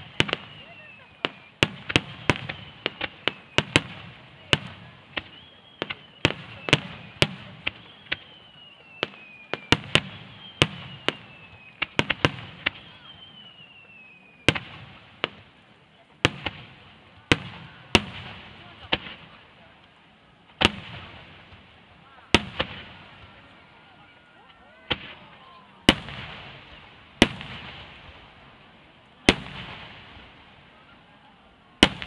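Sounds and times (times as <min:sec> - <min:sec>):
firework bangs: 0:00.0 - 0:15.6, 0:16.2 - 0:19.8, 0:20.5 - 0:32.0.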